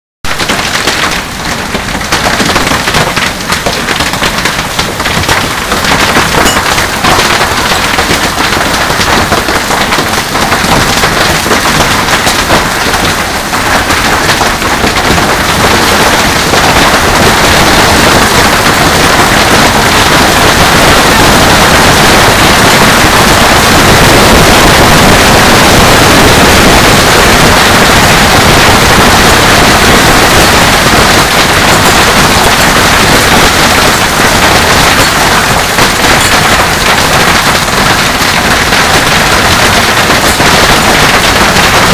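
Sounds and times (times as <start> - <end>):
hailstones pelting patio: 0.2 - 41.9
hail splashing into pool: 0.3 - 41.9.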